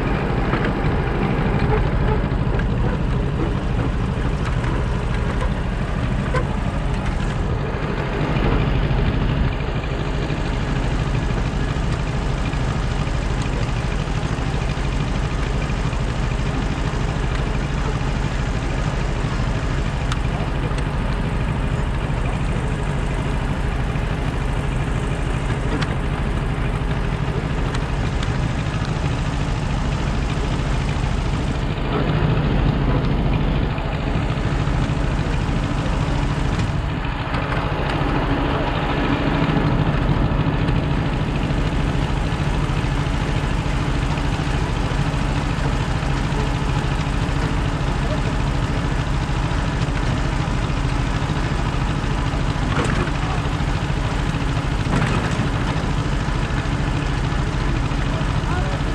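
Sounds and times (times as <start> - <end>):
engine droning: 0.0 - 58.9.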